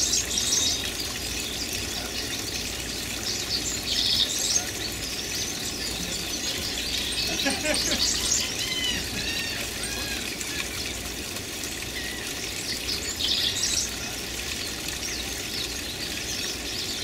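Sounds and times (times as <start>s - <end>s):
birds chirping: 0.0s - 17.0s
water trickling over rocks: 0.0s - 17.0s.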